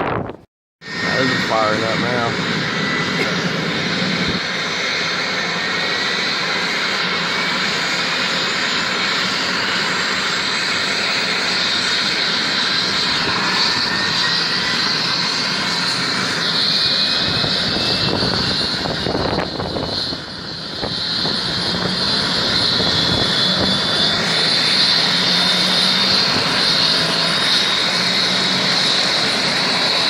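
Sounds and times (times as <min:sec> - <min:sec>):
helicopter turbine and rotor: 0:00.0 - 0:30.0
high turbine whine: 0:00.0 - 0:30.0.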